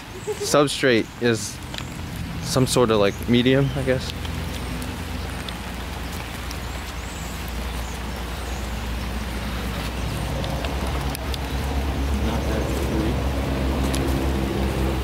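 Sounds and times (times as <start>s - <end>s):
drops ticking near microphone: 0.0s - 15.0s
rain falling: 0.0s - 15.0s.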